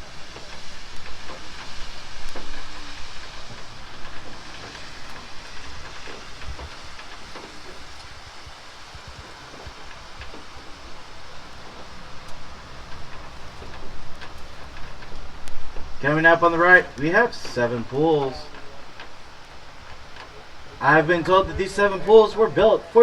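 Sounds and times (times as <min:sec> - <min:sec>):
road noise: 0:00.0 - 0:23.0
vehicle rumble: 0:00.0 - 0:23.0
wind hiss: 0:00.0 - 0:23.0.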